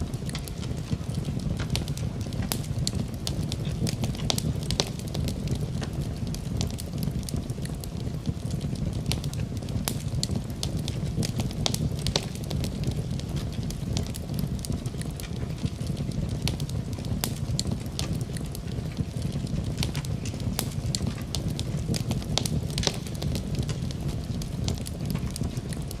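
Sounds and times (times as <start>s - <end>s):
fire crackles and pops: 0.0s - 26.0s
low rumble of flames: 0.0s - 26.0s.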